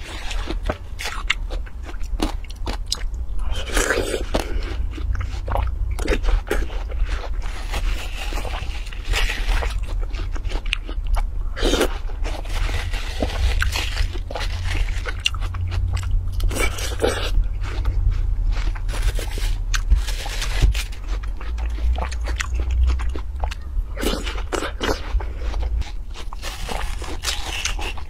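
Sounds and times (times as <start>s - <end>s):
crunchy bites and chewing: 0.0s - 28.0s
low hum: 0.0s - 28.0s.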